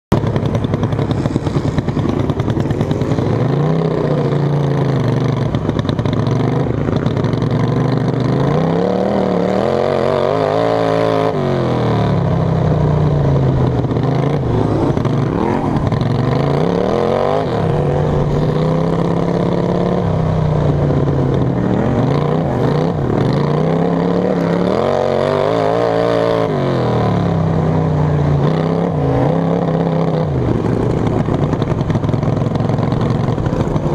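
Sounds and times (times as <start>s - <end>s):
lawn mower engine revving: 0.1s - 33.9s.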